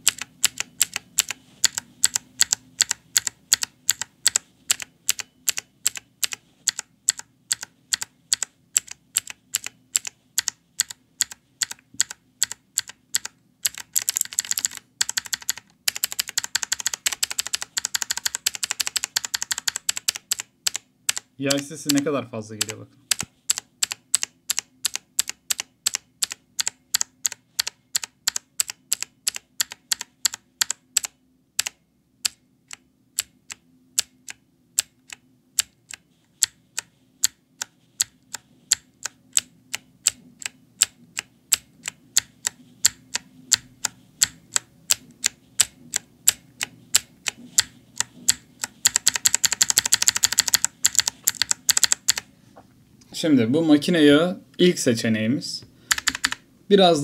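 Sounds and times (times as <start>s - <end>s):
mechanical keyboard switch clicking: 0.0s - 22.0s, 22.6s - 52.3s, 55.9s - 56.4s.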